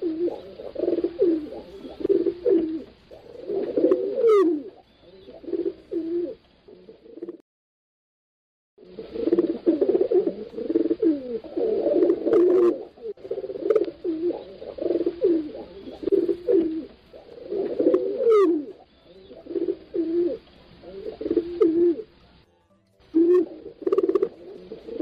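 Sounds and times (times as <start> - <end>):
pigeons cooing: 0.0 - 7.4, 8.8 - 22.2, 23.2 - 25.0.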